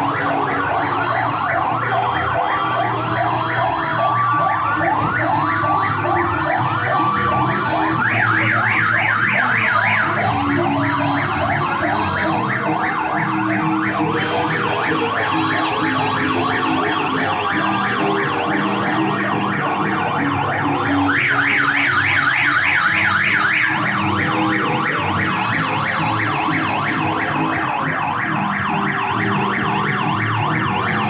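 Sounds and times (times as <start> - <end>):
sirens yelping: 0.0 - 31.0.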